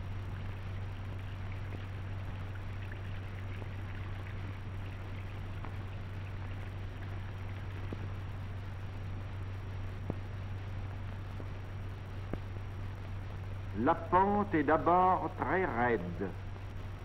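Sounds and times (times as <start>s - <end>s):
faint crackles: 0.0s - 17.0s
low hum and hiss: 0.0s - 17.0s.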